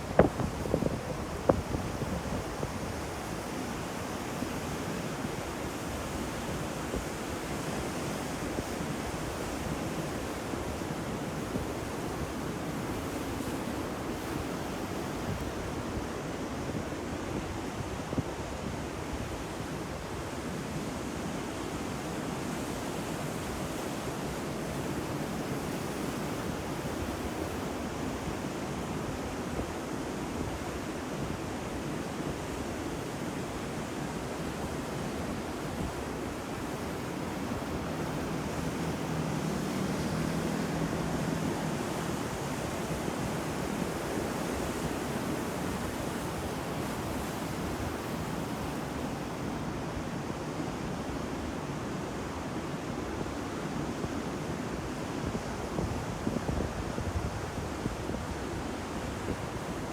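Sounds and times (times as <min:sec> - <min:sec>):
waves breaking on shore: 0:00.0 - 0:59.9.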